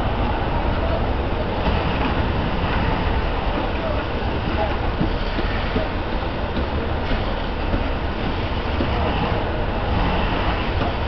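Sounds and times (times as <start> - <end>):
fire engine rumbling: 0.0 - 11.0.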